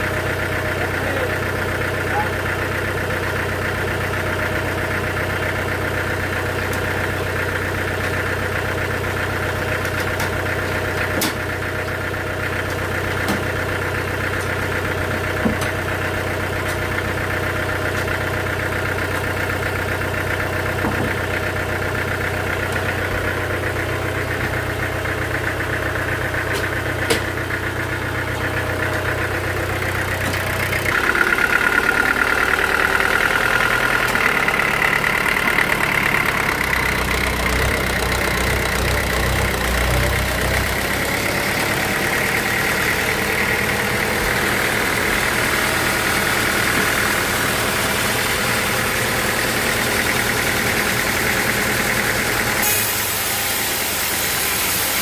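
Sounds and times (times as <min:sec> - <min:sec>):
sawmill machinery hum: 0:00.0 - 0:55.0.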